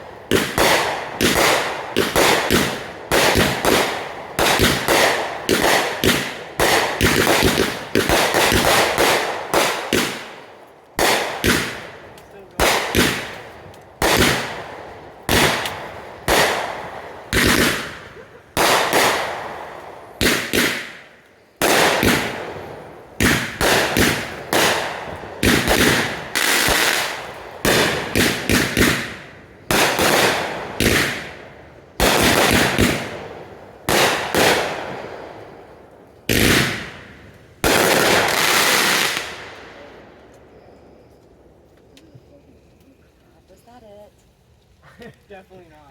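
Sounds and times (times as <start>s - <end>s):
fireworks bursting: 0.0s - 43.2s.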